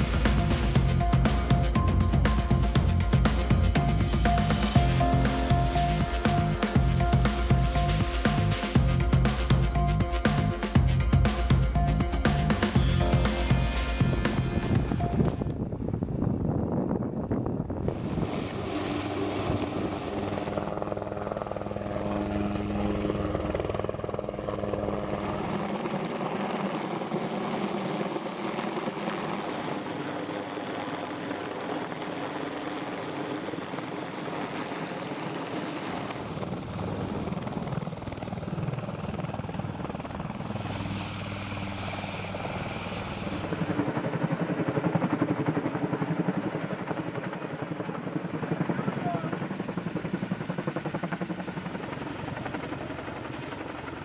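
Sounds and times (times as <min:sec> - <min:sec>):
helicopter rotors and engines: 0:00.0 - 0:54.0.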